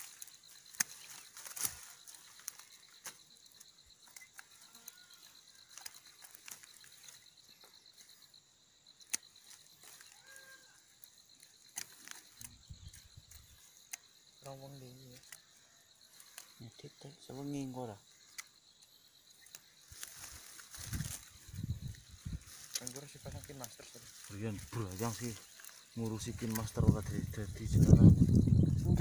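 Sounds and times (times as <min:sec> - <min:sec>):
twigs and leaf litter crackling: 0:00.0 - 0:08.3, 0:08.9 - 0:16.8, 0:17.5 - 0:29.0
high-pitched insect trill: 0:00.0 - 0:29.0.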